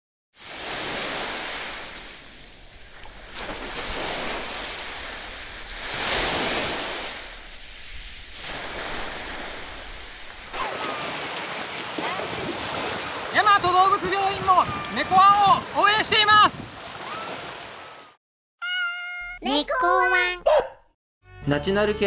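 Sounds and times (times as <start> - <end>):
sea surf washing onto beach: 0.4 - 18.1.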